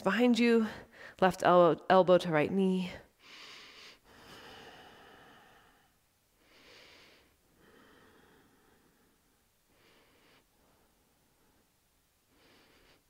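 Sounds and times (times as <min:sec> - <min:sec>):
woman breathing slowly: 0:00.6 - 0:01.2, 0:03.0 - 0:13.0.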